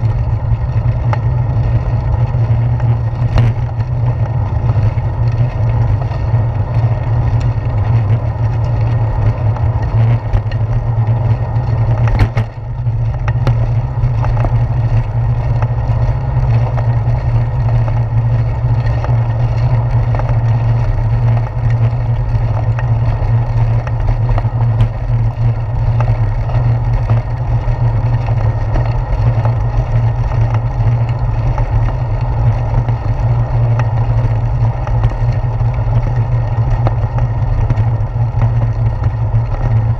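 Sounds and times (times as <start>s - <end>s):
wind rumble: 0.0s - 39.9s.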